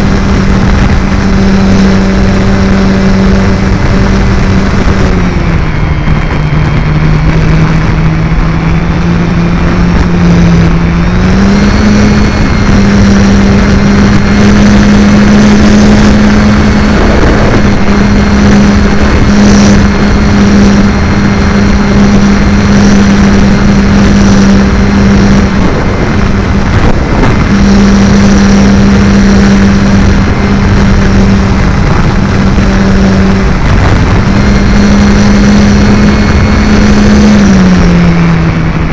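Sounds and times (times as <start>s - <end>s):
electric motor and propeller drone: 0.0s - 38.9s
wind rush: 0.0s - 38.9s.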